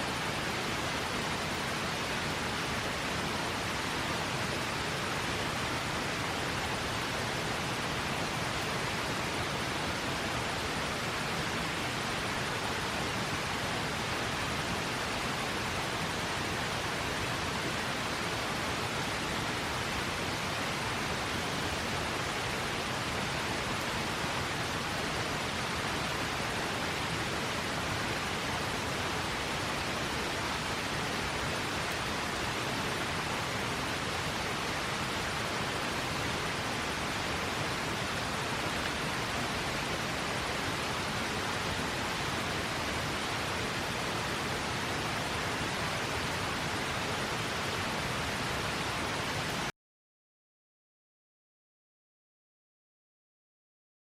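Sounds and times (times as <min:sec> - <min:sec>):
river water rushing: 0:00.0 - 0:49.7.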